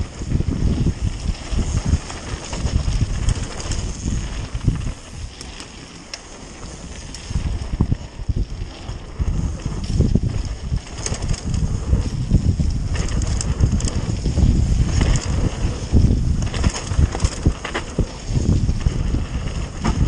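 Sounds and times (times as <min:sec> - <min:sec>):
bike clicks and rattles: 0:00.0 - 0:20.0
tyres rolling on gravel: 0:00.0 - 0:20.0
wind buffeting microphone: 0:00.0 - 0:20.0.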